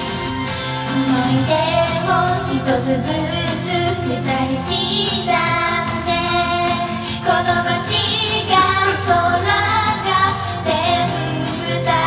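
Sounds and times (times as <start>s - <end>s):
upbeat pop band backing: 0.0s - 12.0s
women singing pop melody: 0.8s - 12.0s.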